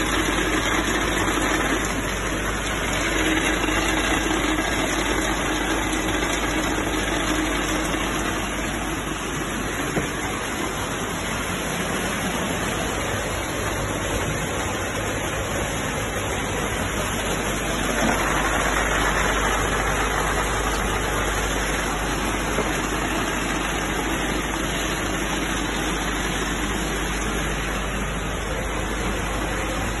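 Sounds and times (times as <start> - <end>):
sorting machine hum and hiss: 0.0 - 30.0.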